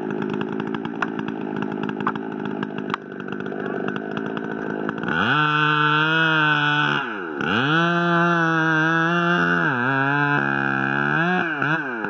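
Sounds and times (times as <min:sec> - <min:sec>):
chainsaw running: 0:00.0 - 0:12.0.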